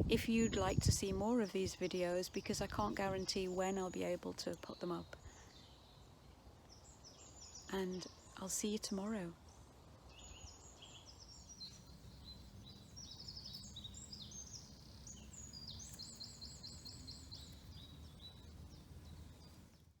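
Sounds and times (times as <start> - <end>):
faint low wind rumble: 0.0 - 20.0
songbirds singing: 0.2 - 20.0.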